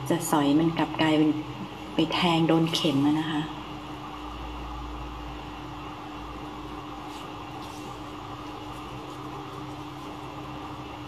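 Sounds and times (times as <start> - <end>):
machine running hum and hiss: 0.0 - 11.0.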